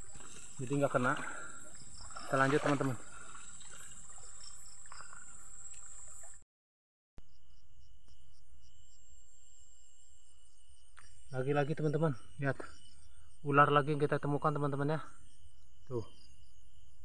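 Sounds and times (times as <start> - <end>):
crickets trilling: 0.0 - 6.4, 7.2 - 17.0
insects pulsing call: 0.0 - 6.4, 7.2 - 17.0.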